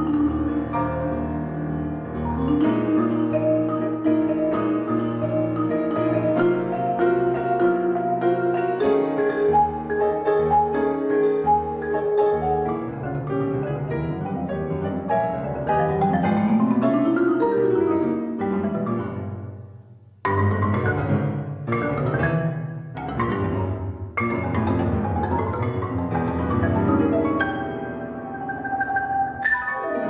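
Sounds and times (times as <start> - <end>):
marimba: 0.0 - 30.0
piano: 0.0 - 30.0.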